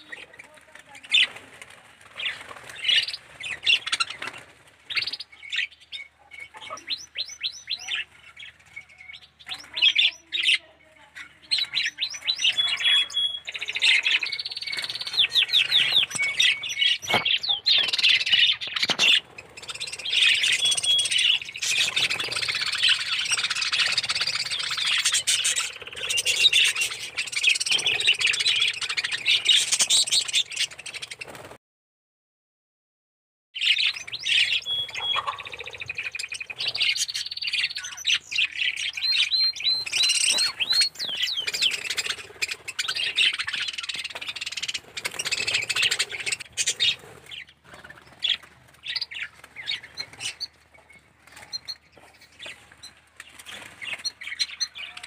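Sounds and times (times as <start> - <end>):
budgerigars chirping: 2.2 - 31.5, 33.6 - 55.0.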